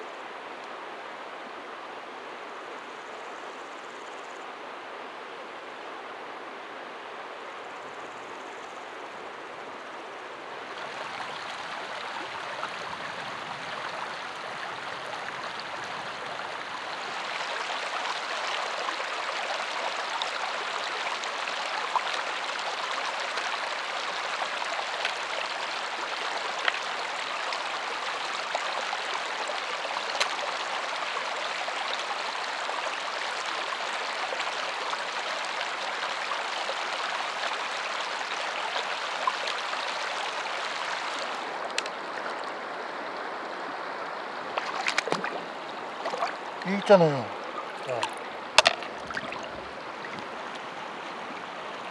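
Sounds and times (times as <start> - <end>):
stream babbling over stones: 10.4 - 51.9.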